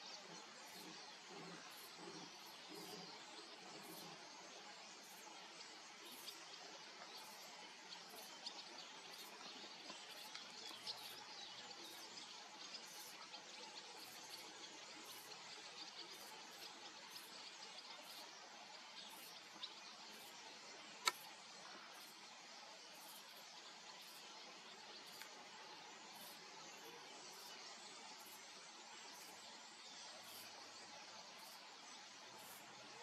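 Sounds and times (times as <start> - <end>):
faint outdoor hiss: 0.0 - 33.0
soft ticks and chirps: 0.0 - 33.0.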